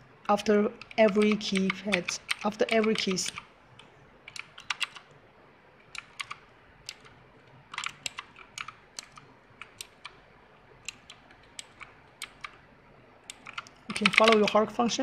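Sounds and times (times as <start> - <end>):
mechanical keyboard clicks: 0.2 - 3.5, 4.3 - 5.1, 5.9 - 12.6, 13.2 - 14.9.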